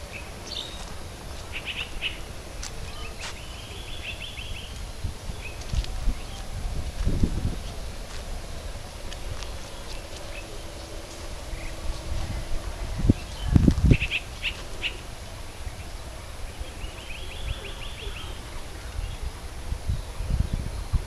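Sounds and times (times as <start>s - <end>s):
birds chirping: 0.0s - 21.0s
outdoor background noise: 0.0s - 21.0s.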